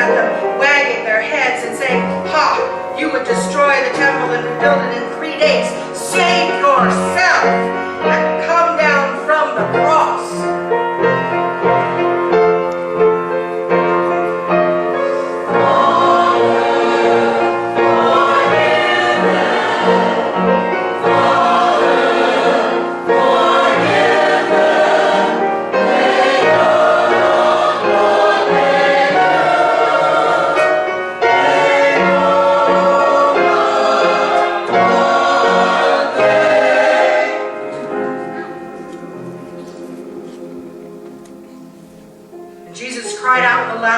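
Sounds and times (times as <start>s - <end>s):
choir singing: 0.0s - 43.3s.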